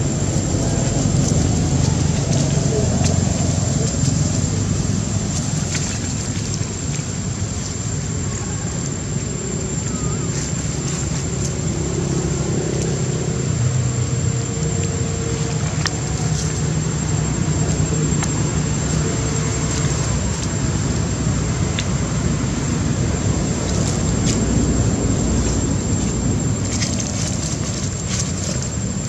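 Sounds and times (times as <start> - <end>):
high-pitched whine: 0.0 - 29.0
vehicle engine low rumble: 0.0 - 29.0.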